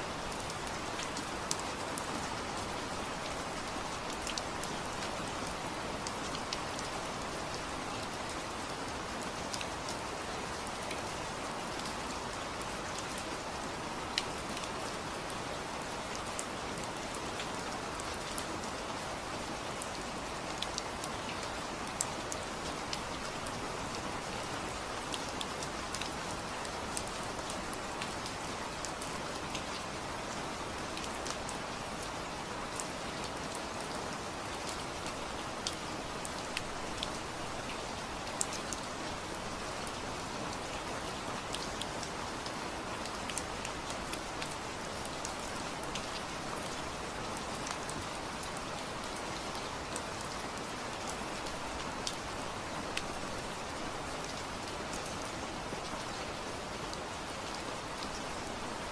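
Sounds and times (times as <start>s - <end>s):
steady rain hiss: 0.0s - 58.9s
raindrops ticking on a surface: 0.1s - 13.3s, 16.1s - 58.9s.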